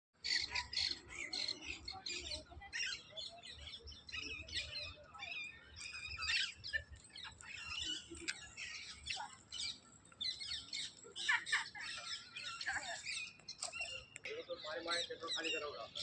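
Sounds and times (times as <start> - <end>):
many birds chirping: 0.2 - 16.0.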